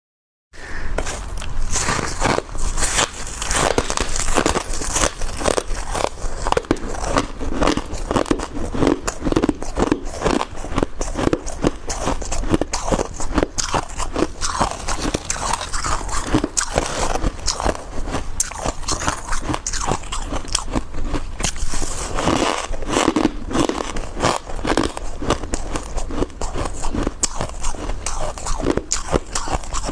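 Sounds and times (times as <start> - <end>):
chewing crunchy frost: 1.0 - 29.9.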